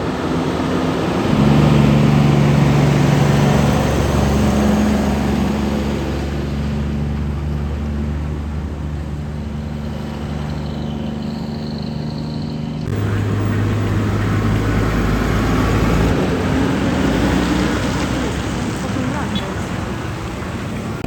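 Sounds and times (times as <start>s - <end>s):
road noise: 0.0s - 21.0s
truck diesel engine running: 0.0s - 21.0s.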